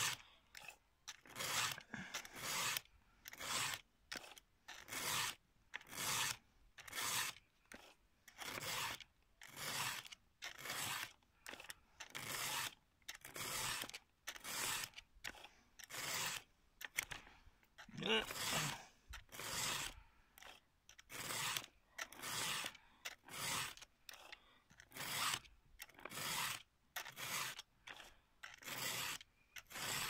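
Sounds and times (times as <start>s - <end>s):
file rasping on chainsaw chain: 0.0s - 30.0s.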